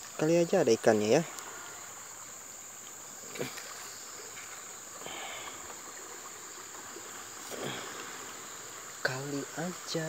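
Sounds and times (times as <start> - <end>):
fast-flowing river rushing: 0.9 - 10.0.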